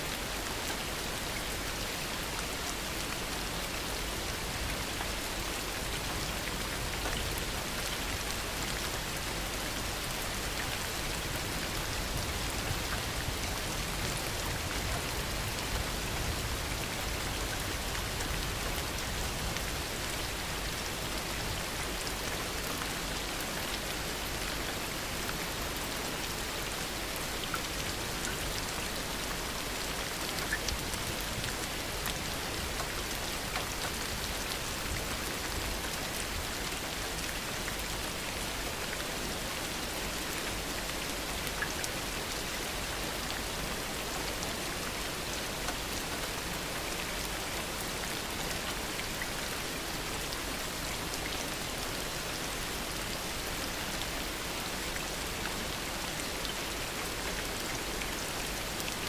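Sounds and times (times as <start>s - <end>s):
heavy rain: 0.0s - 59.0s
raindrops pattering on surfaces: 0.2s - 59.0s.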